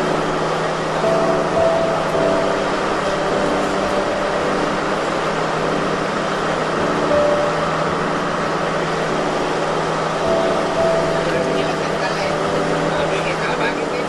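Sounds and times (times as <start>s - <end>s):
diesel train engine running: 0.0s - 14.0s.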